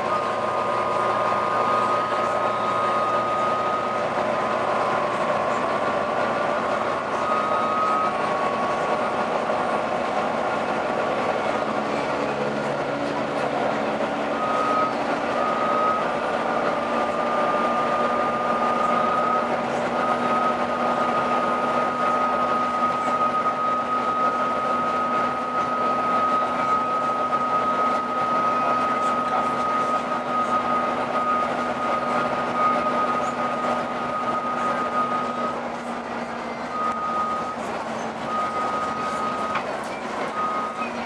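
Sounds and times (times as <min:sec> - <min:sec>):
bus engine: 0:00.0 - 0:41.0
road noise: 0:00.0 - 0:41.0.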